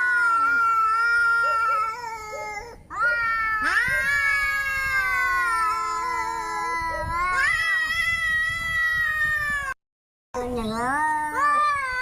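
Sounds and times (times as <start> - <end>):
angry cat yowling: 0.0 - 9.8.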